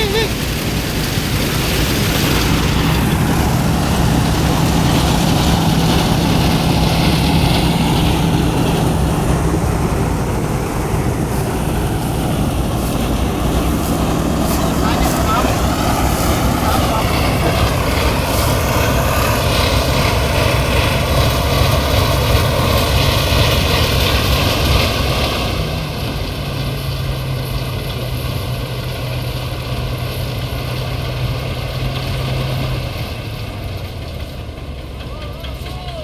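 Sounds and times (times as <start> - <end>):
thresher engine hum: 0.0 - 36.0.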